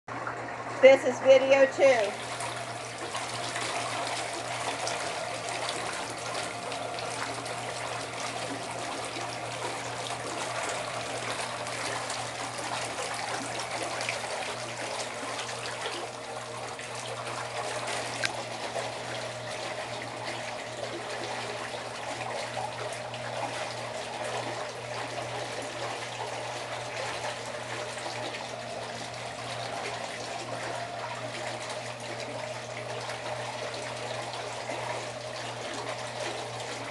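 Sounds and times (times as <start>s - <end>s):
low pump hum: 0.1s - 36.9s
water trickling and splashing: 0.1s - 36.9s.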